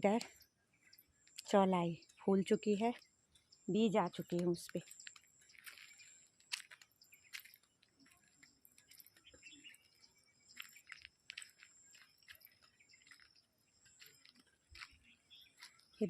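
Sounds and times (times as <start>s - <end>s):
faint clicks and crackles: 1.1s - 2.2s, 4.1s - 16.0s.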